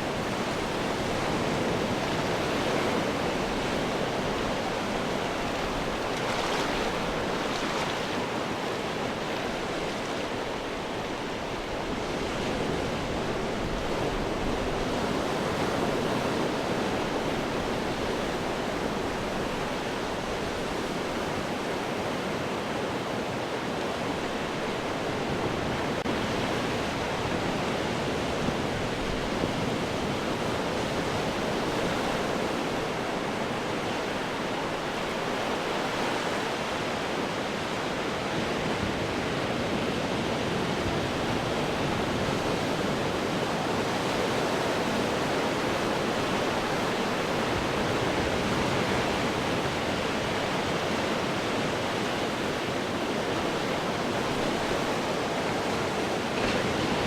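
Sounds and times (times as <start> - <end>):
ocean surf washing over rocks: 0.0 - 57.0.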